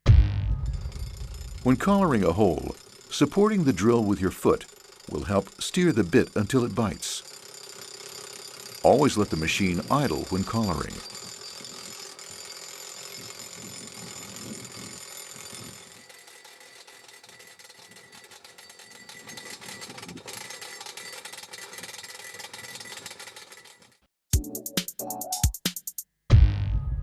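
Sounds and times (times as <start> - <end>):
rock drill hammering: 0.7 - 24.0.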